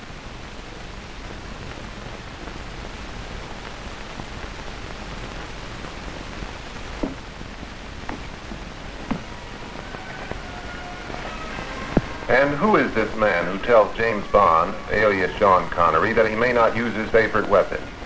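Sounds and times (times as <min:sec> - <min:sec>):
film soundtrack hiss: 0:00.0 - 0:18.0.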